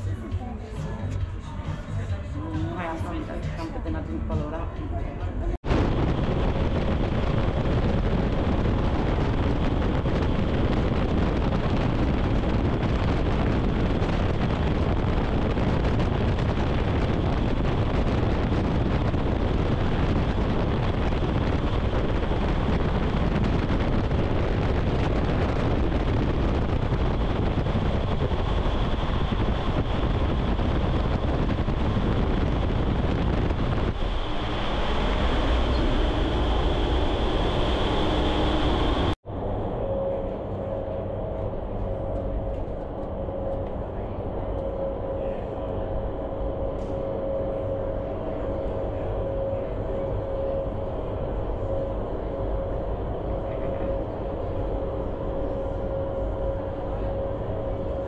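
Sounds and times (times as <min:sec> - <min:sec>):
wind tunnel air rushing: 0:05.6 - 0:58.0
faint high whine: 0:05.7 - 0:58.0.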